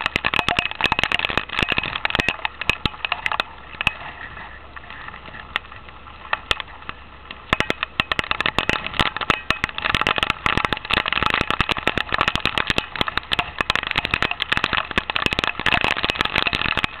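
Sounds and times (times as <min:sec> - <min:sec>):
hail pelting down: 0:00.0 - 0:17.0.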